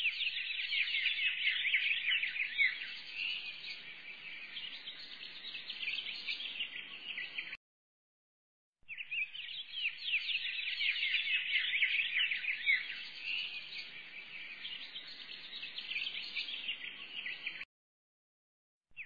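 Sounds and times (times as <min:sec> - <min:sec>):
small birds chirping: 0:00.0 - 0:07.6, 0:08.9 - 0:17.7.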